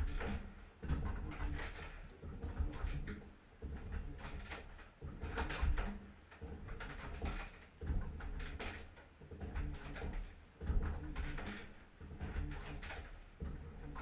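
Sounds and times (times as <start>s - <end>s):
washing machine agitating: 0.0s - 14.0s.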